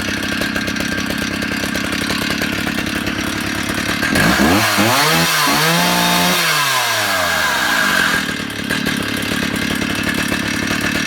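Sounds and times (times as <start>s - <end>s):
chainsaw revving and idling: 0.0s - 11.0s.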